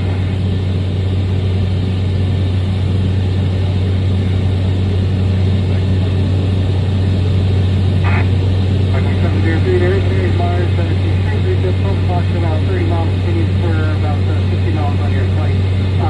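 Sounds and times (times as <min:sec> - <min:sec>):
turboprop engine drone: 0:00.0 - 0:16.0.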